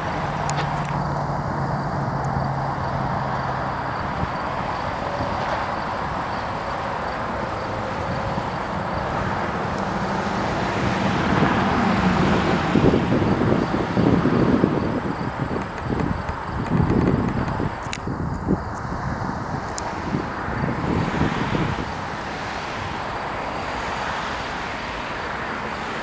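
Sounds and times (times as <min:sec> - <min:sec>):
distant boat engine drone: 0:00.0 - 0:26.0
outdoor noise: 0:00.0 - 0:26.0
wind buffeting microphone: 0:00.0 - 0:26.0.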